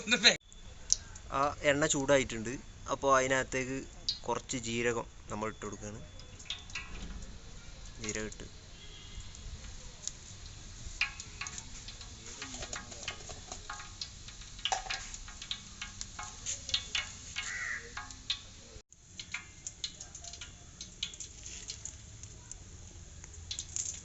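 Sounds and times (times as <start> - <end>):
faint oil sizzle: 0.4 - 24.0
seeds popping in hot oil: 0.4 - 24.0.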